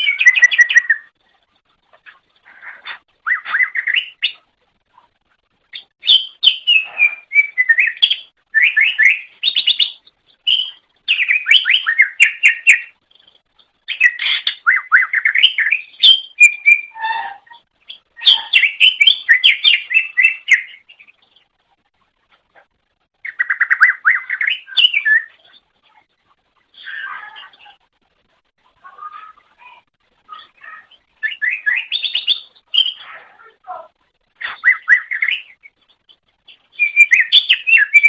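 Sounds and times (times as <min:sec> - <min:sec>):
bird singing rapid chirps: 0:00.0 - 0:01.2, 0:02.0 - 0:04.5, 0:05.6 - 0:21.6, 0:23.2 - 0:26.0, 0:28.8 - 0:33.6, 0:34.4 - 0:38.0.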